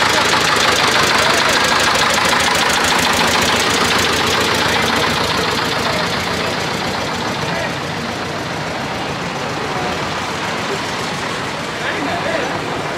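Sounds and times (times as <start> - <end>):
engine running: 0.0 - 12.9.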